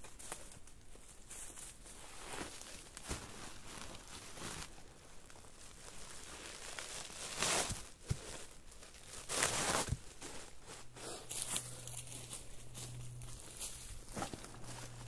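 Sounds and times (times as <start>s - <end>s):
footsteps in dry leaves: 0.0s - 15.0s
plastic sack rustling: 0.0s - 15.0s.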